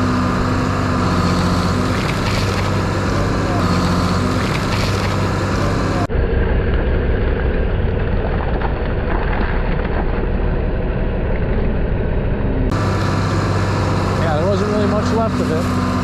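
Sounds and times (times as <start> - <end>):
dull rumbling engine: 0.0 - 16.0
engine running under load: 0.0 - 16.0.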